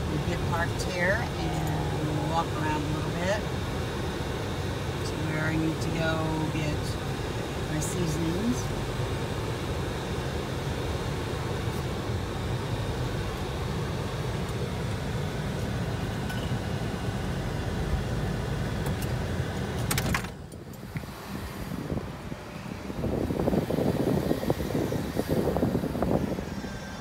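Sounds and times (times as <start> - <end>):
car engine rumble from inside: 0.0 - 27.0.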